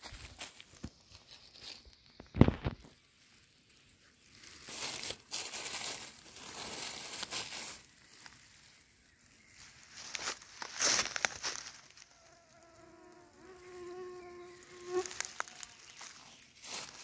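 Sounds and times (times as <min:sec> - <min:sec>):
dry leaves crackling: 0:00.0 - 0:17.0.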